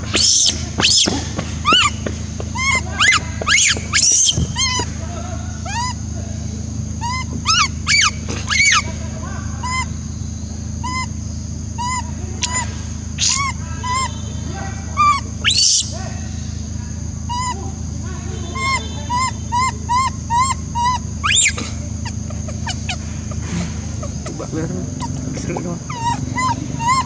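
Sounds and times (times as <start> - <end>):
baby monkey crying: 0.0 - 6.2, 7.0 - 10.0, 10.8 - 16.0, 17.2 - 17.8, 18.4 - 27.0.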